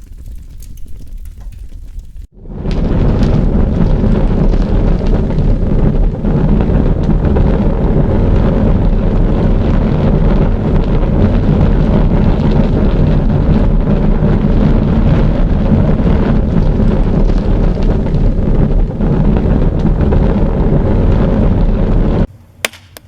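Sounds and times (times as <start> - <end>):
fire rumbling and crackling: 0.0 - 22.3.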